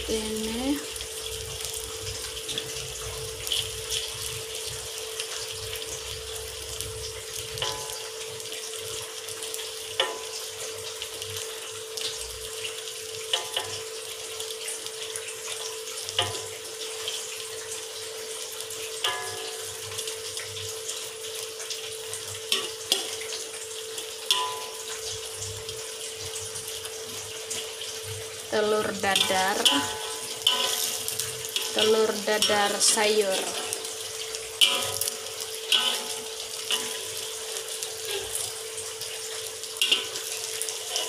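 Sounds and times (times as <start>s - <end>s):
egg sizzling in hot oil: 0.0s - 41.0s.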